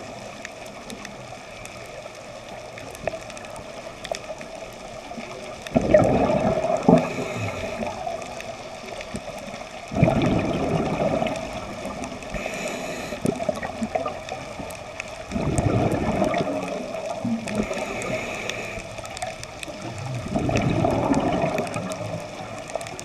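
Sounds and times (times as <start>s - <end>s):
faint steady hiss: 0.0s - 23.0s
underwater bubbles gurgling: 0.0s - 23.0s.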